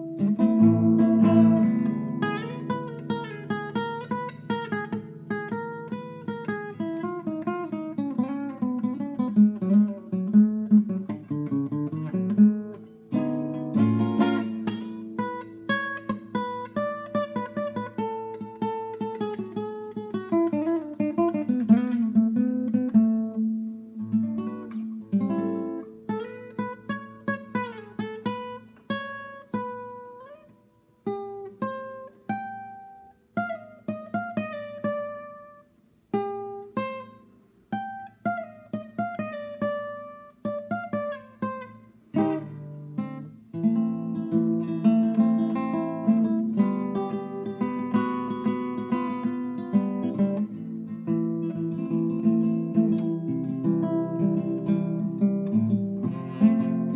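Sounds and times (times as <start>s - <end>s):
classical guitar fingerstyle: 0.0s - 56.9s.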